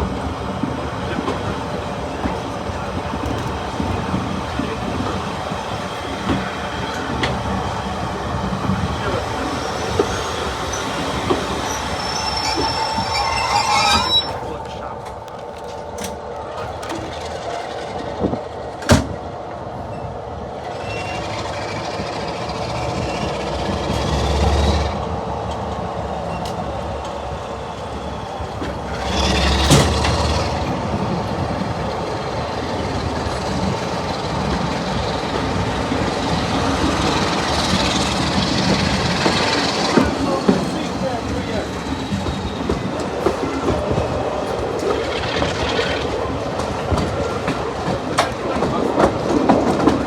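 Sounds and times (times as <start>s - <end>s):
train rumble and rail noise: 0.0s - 50.0s.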